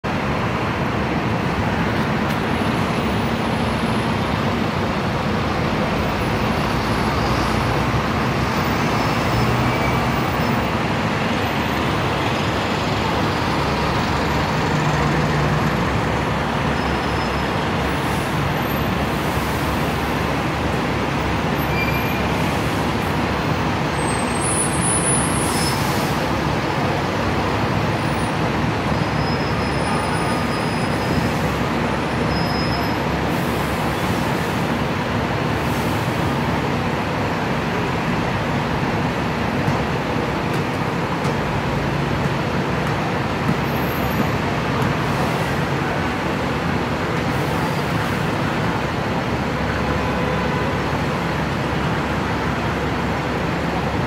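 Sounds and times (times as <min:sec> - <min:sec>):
bus engines running: 0:00.0 - 0:54.0
city traffic roar: 0:00.0 - 0:54.0.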